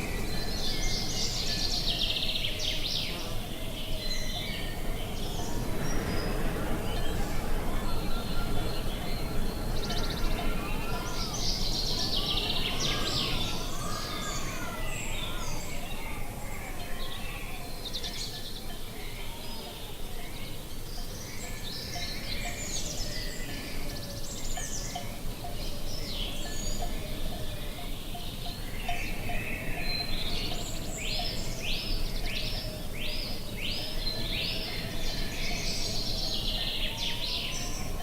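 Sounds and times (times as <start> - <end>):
birds chirping and singing: 0.0 - 38.0
steady background hiss: 0.0 - 38.0.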